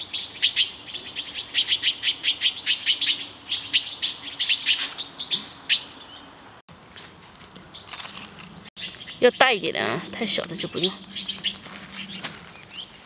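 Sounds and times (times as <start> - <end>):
small bird chirping: 0.0 - 6.3, 7.7 - 13.0.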